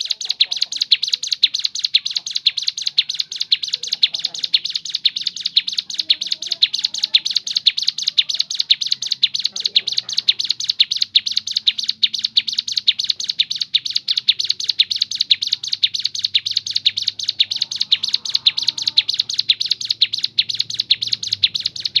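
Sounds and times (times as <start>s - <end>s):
bird chirping rapidly: 0.0s - 22.0s.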